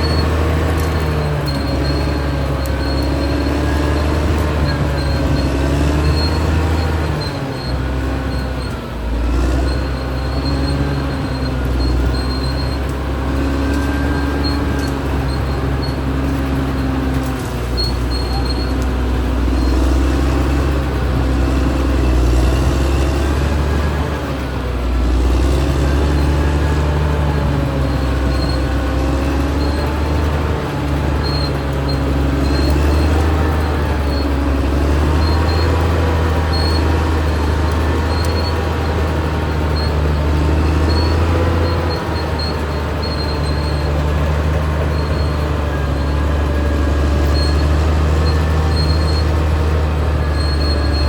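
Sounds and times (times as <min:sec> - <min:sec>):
bulldozer diesel engine running: 0:00.0 - 0:51.0
steel tracks squeaking: 0:00.0 - 0:51.0.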